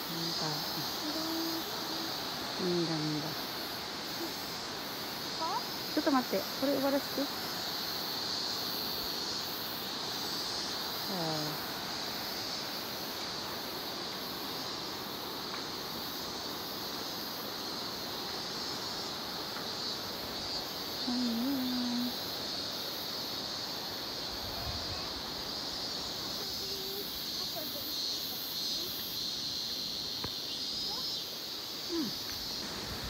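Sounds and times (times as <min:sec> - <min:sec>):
high insect drone: 0:00.0 - 0:33.0
outdoor hiss: 0:00.0 - 0:33.0.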